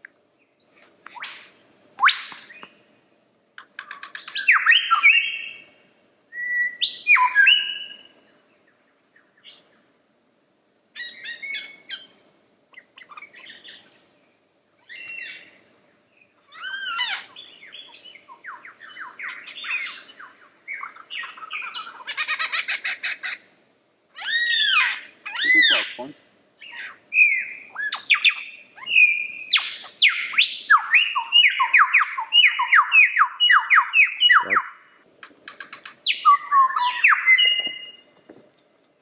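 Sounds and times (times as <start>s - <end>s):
lyrebird singing: 0.0s - 2.8s, 3.6s - 5.7s, 6.4s - 9.7s, 11.0s - 12.1s, 12.7s - 14.0s, 16.2s - 23.4s, 24.1s - 38.2s.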